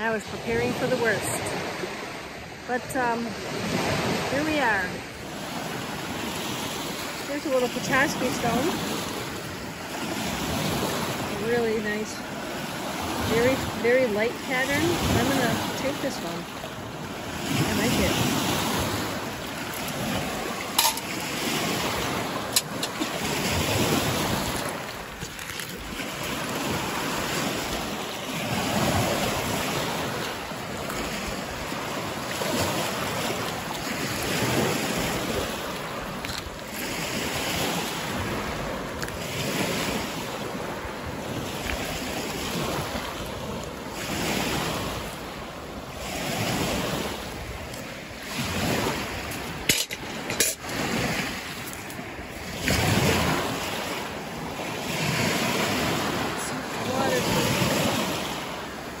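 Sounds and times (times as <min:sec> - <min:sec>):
surf washing onto pebble shore: 0:00.0 - 0:59.0.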